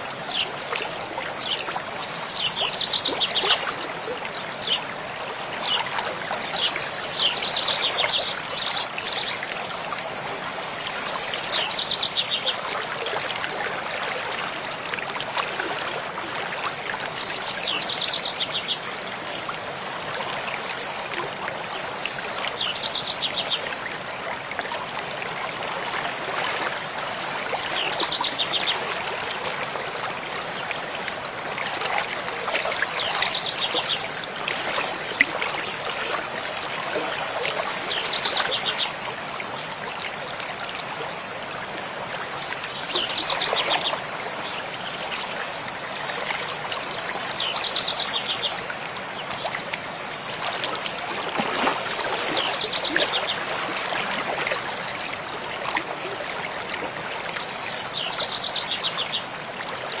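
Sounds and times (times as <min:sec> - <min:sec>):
stream flowing: 0:00.0 - 1:00.0.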